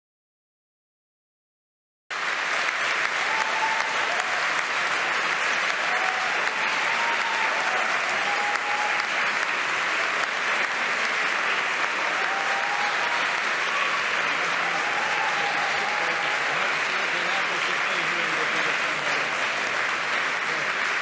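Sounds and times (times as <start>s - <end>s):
large crowd applauding: 2.1s - 21.0s.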